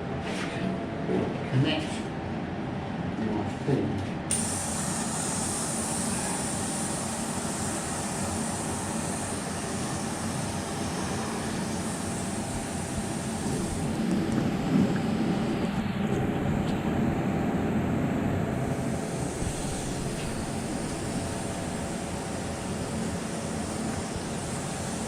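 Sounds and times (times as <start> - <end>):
compressed air spray rumble and hiss: 4.3 - 25.0.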